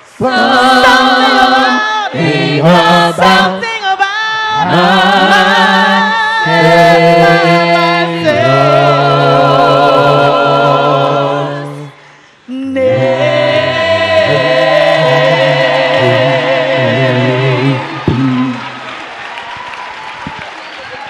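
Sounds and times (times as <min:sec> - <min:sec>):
a cappella group singing harmony: 0:00.0 - 0:18.8.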